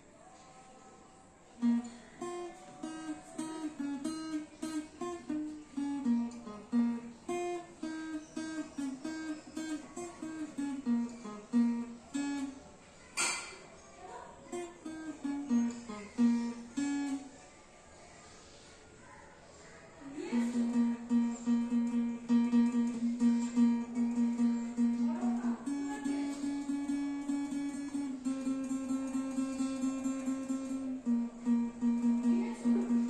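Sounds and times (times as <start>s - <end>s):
acoustic guitar single-note melody: 1.5s - 13.4s, 14.4s - 17.4s, 20.1s - 33.0s.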